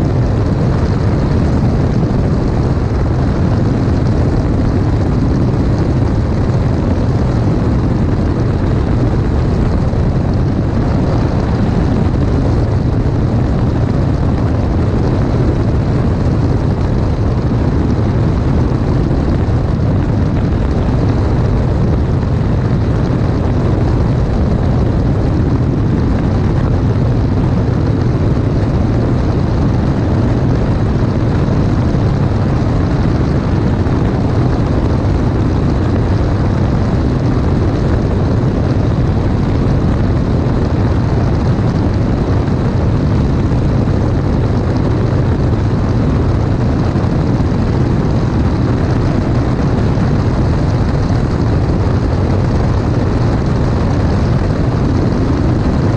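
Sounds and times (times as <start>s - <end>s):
light aircraft engine drone: 0.0s - 55.9s
wind rushing: 0.0s - 55.9s.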